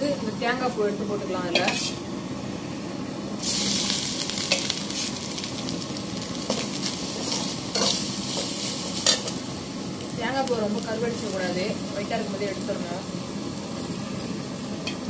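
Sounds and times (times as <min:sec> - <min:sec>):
coconut sizzling in hot fat: 0:00.0 - 0:15.0.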